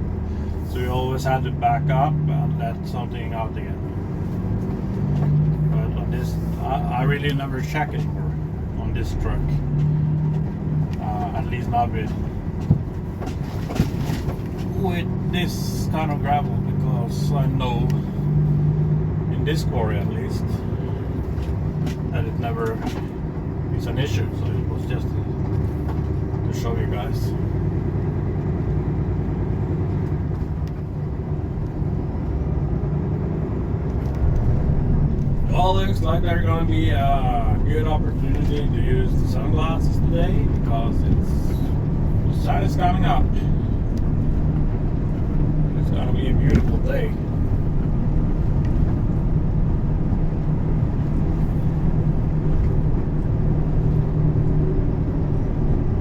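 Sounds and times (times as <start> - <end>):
road noise: 0.0 - 56.0
truck diesel engine drone: 0.0 - 56.0.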